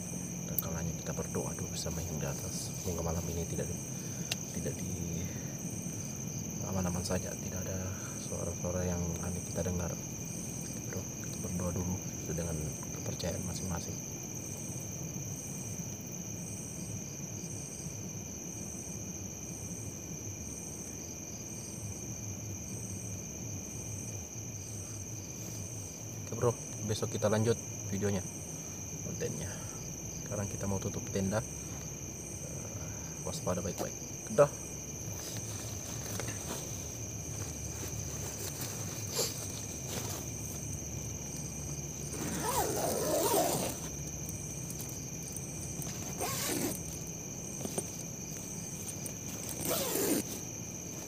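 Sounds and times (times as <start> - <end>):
crickets trilling: 0.0 - 51.0
high insect chirp: 0.0 - 51.0.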